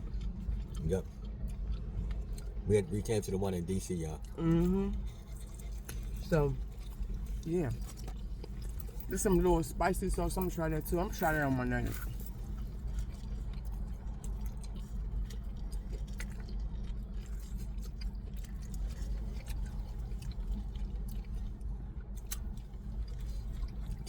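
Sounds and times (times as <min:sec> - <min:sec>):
person chewing: 0:00.0 - 0:09.1, 0:11.9 - 0:24.0
low steady hum: 0:00.0 - 0:24.0.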